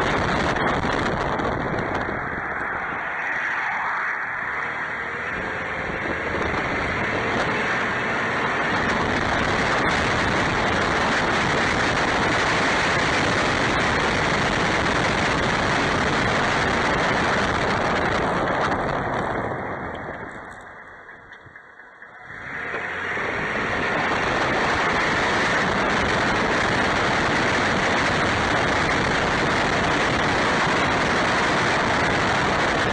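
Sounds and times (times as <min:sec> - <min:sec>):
truck driving at speed: 0:00.0 - 0:32.9.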